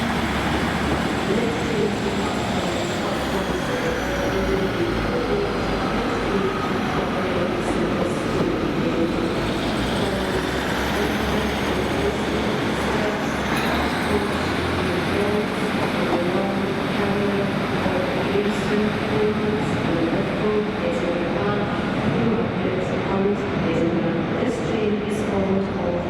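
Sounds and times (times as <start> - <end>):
train diesel engine hum: 0.0 - 26.0.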